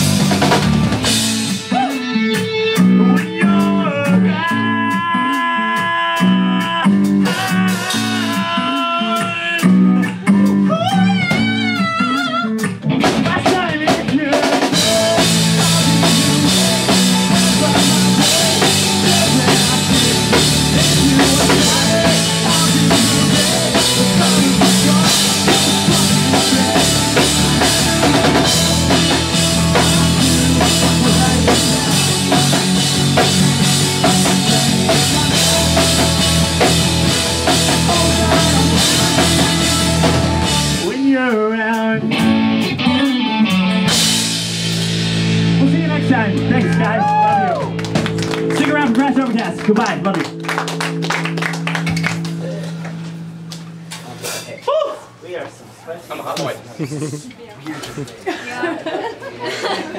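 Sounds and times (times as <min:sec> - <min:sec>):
wavering guitar lead line: 0:00.0 - 0:54.0
live pop-punk band playing: 0:00.0 - 0:54.5.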